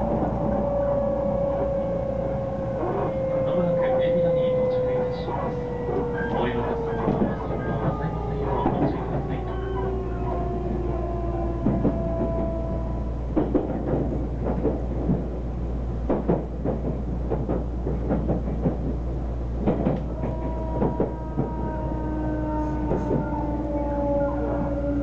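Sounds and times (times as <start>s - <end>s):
train cabin rumble: 0.0s - 25.0s.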